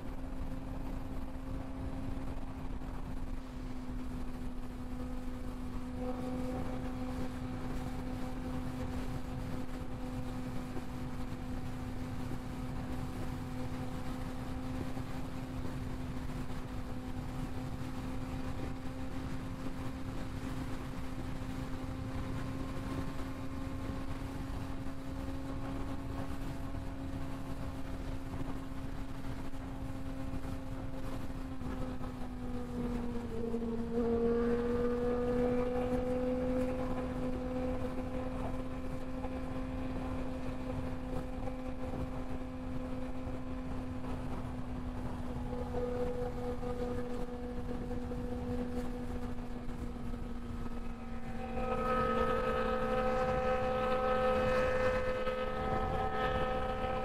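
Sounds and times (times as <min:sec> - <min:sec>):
motorcycle engine droning: 0:00.0 - 0:57.0
wind noise: 0:00.0 - 0:57.0.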